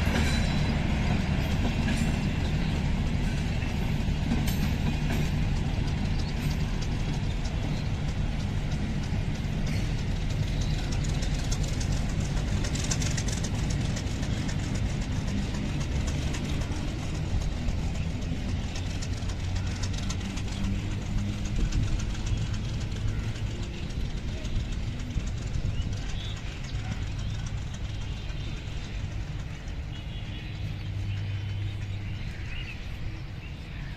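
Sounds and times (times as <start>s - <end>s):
train rumbling on track: 0.0s - 33.9s
train wheel clicks: 0.0s - 33.9s.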